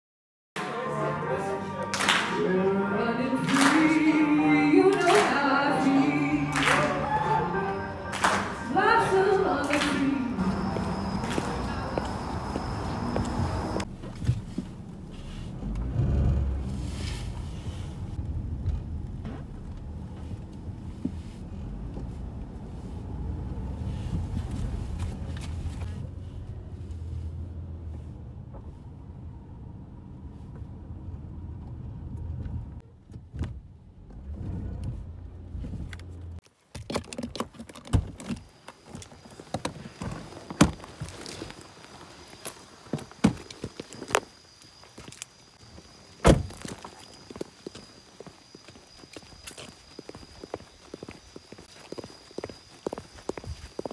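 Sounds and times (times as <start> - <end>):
car engine and road rumble: 3.0 - 53.9.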